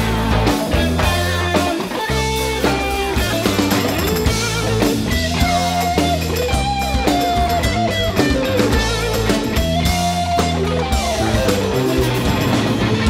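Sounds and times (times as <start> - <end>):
bass guitar: 0.0 - 13.0
drum kit: 0.0 - 13.0
electric guitar lead: 0.0 - 13.0.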